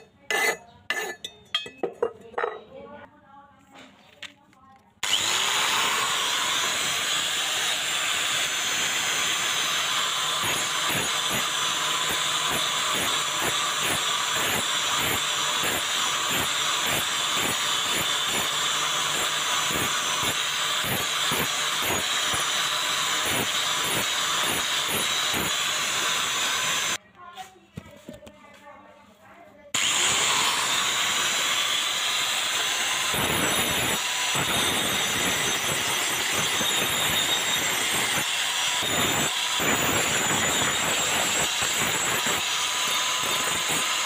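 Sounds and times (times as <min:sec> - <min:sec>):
angle grinder whining: 0:05.0 - 0:27.0, 0:29.8 - 0:44.0.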